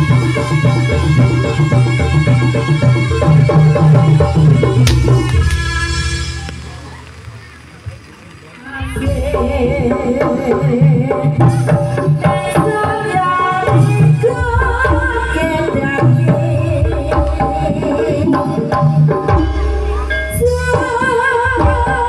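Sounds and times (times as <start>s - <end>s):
drums beating steadily: 0.0s - 22.0s.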